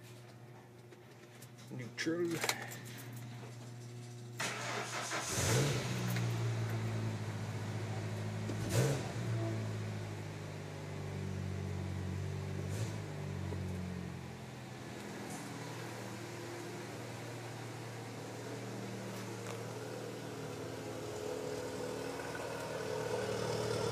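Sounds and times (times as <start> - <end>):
pickup engine idling and revving: 4.4 - 23.9.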